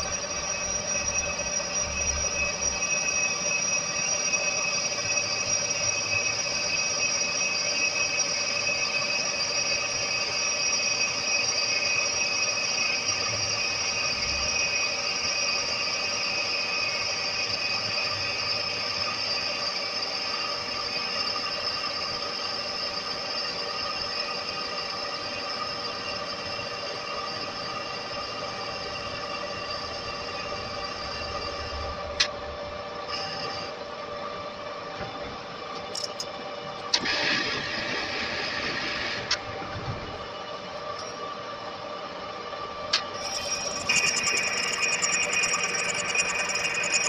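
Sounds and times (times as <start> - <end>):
metal lathe squealing whine: 0.0 - 47.0.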